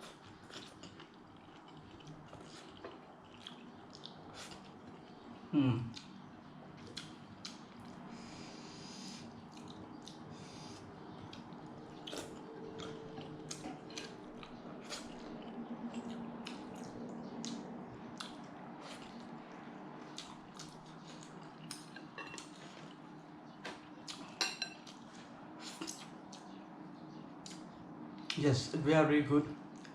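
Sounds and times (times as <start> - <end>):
person chewing: 0.0 - 5.2, 6.8 - 8.2, 9.4 - 26.6.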